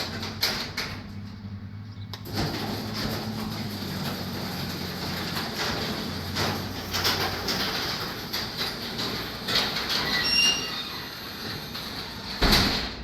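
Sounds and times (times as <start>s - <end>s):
garage door rattling on tracks: 0.0s - 1.6s, 2.2s - 13.0s
garage door squeaks: 2.2s - 13.0s.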